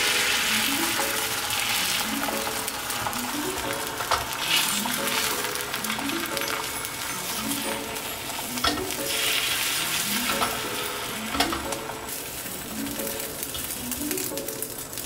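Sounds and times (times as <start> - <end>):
egg sizzling in a pan: 0.0 - 15.0
chopsticks clicking on pan: 1.9 - 9.4, 10.0 - 15.0.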